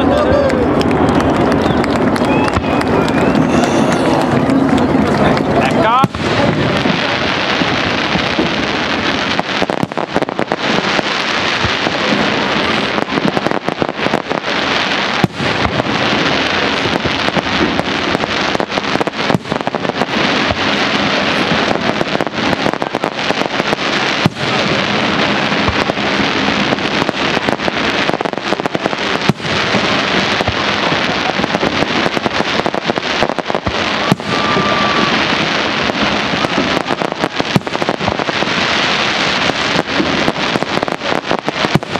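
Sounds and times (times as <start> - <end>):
firework bangs: 0.0 - 41.9
fireworks crackling and popping: 0.0 - 41.9.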